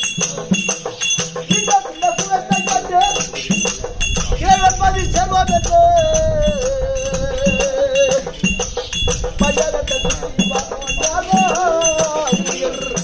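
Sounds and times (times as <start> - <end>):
ankle bells jingling: 0.0 - 13.0
drum strokes: 0.0 - 13.0.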